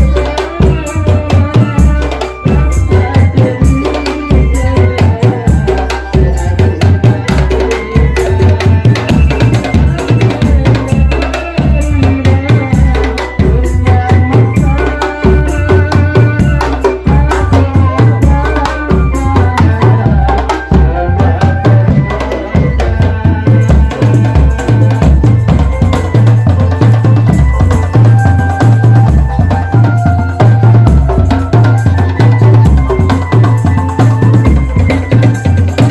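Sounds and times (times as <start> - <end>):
marching drum band playing: 0.0 - 35.9.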